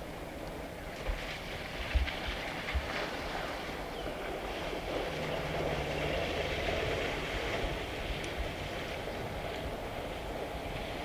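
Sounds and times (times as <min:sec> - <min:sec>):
water splashing and rushing: 0:00.0 - 0:11.0.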